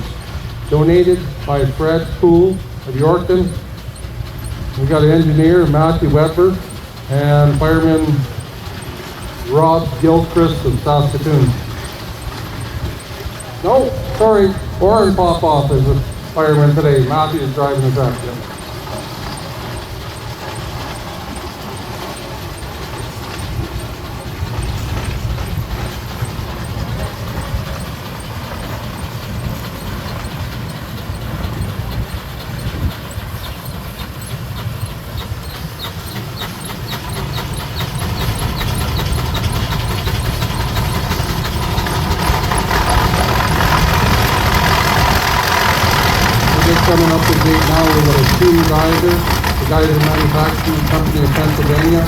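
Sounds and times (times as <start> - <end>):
steam traction engine rumble: 0.0 - 52.0.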